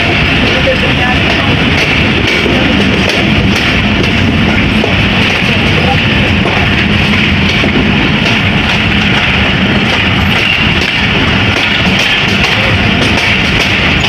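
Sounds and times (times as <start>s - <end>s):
passenger train running on track: 0.0s - 14.0s.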